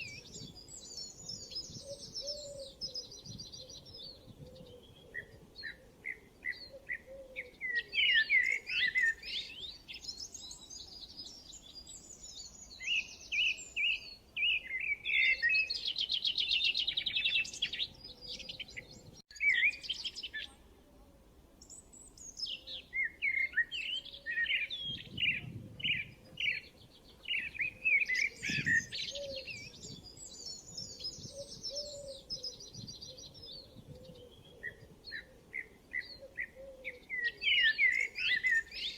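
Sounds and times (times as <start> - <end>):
songbirds singing and chirping: 0.0 - 20.8, 21.6 - 38.9.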